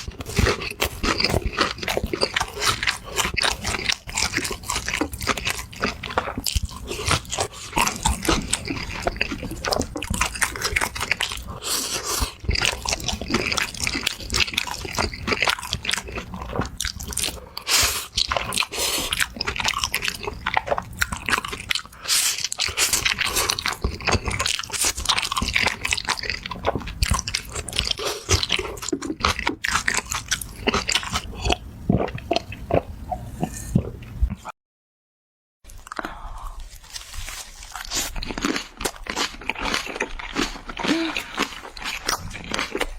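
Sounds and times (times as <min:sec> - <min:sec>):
person chewing crunchy food: 0:00.0 - 0:34.5, 0:35.7 - 0:42.9.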